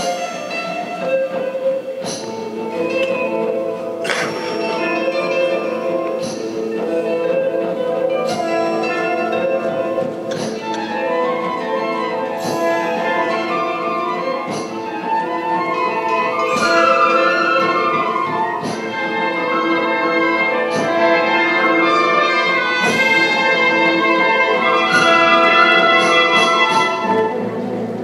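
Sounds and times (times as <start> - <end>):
orchestral music with brass: 0.0 - 28.0.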